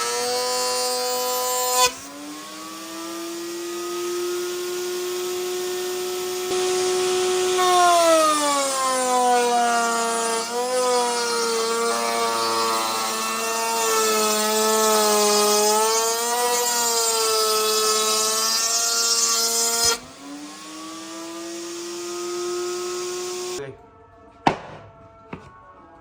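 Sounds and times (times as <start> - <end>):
hiss of wood cutting: 0.0 - 10.7, 11.3 - 23.6
power tool motor: 0.0 - 23.6.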